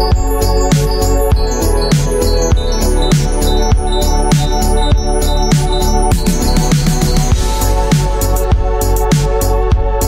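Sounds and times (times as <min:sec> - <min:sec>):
electronic music with drums and bass: 0:00.0 - 0:10.0.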